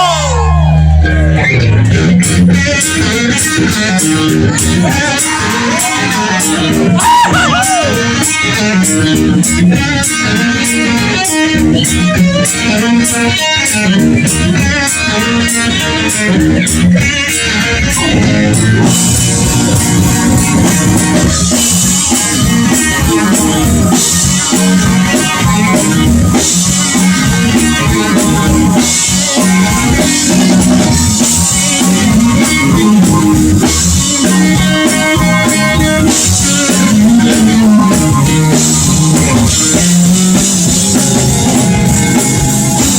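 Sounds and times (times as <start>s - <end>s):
bass: 0.0s - 42.9s
drum kit: 0.0s - 42.9s
electric guitar: 0.0s - 42.9s.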